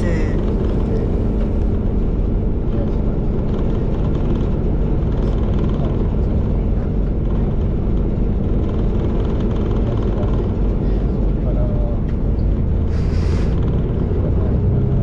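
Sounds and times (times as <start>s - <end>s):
train diesel engine running: 0.0s - 15.0s.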